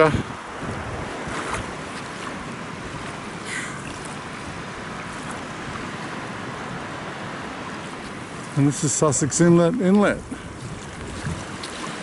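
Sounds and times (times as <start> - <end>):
surf and water: 0.0 - 12.0
wind buffeting microphone: 0.0 - 12.0.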